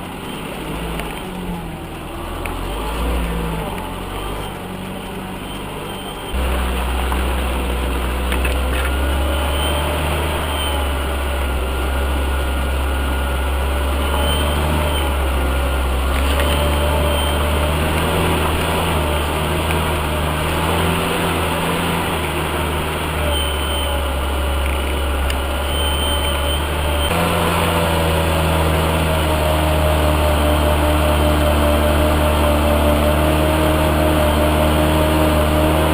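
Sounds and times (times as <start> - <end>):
off-road vehicle engine running: 0.0 - 35.9.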